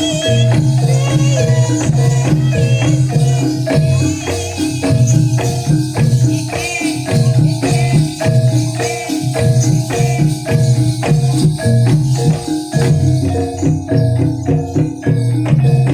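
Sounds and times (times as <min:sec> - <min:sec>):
drums and percussion: 0:00.0 - 0:15.9
metallophones playing melody: 0:00.0 - 0:15.9.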